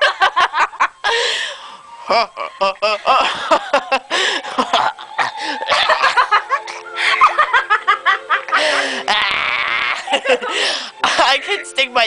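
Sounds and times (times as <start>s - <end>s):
people laughing: 0.0s - 1.3s, 2.0s - 11.6s.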